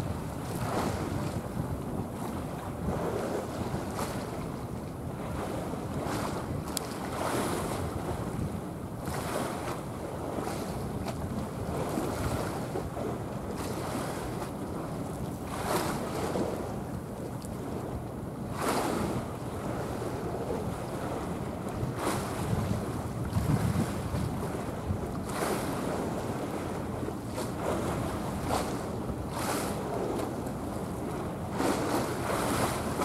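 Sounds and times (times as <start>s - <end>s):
choppy sea wash: 0.0s - 33.0s
wind buffeting microphone: 0.0s - 33.0s.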